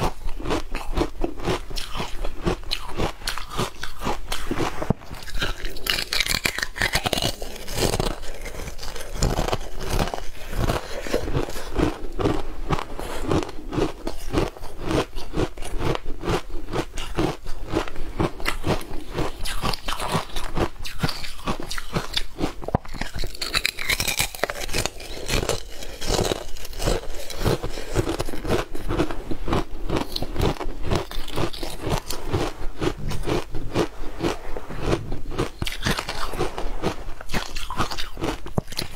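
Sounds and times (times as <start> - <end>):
ice being bitten and chewed: 0.0 - 38.9.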